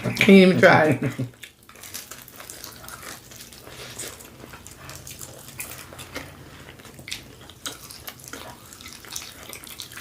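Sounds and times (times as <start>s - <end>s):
people chewing food: 0.0s - 10.0s.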